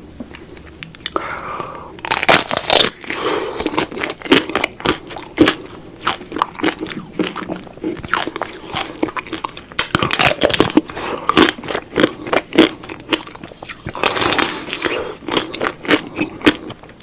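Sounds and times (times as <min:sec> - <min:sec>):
crunchy bites and chewing: 0:00.3 - 0:17.0.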